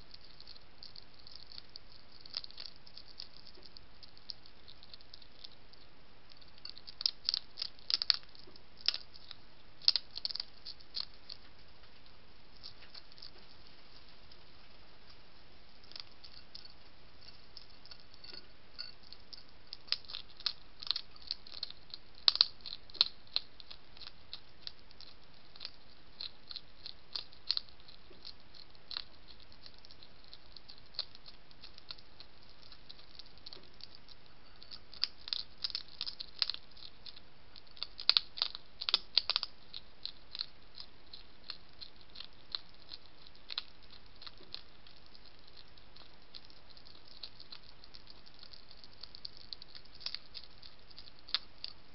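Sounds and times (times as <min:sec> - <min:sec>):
faint steady hiss: 0:00.0 - 0:51.9
hedgehog crunching food: 0:00.0 - 0:51.9.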